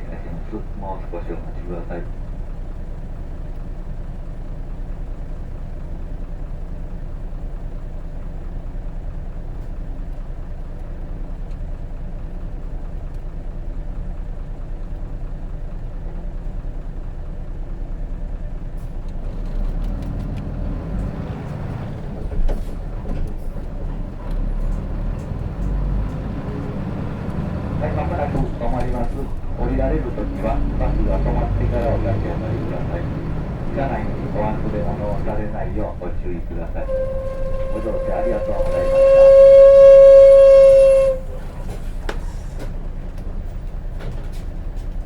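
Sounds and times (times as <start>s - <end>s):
bus diesel engine running: 0.0s - 45.0s.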